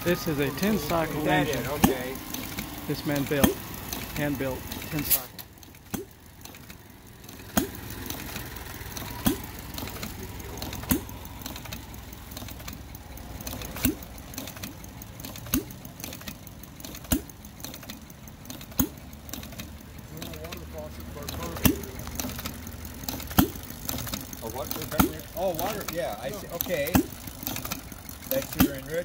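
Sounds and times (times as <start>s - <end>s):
engine firing pops: 0.0s - 29.0s
mechanical clatter: 0.0s - 29.0s.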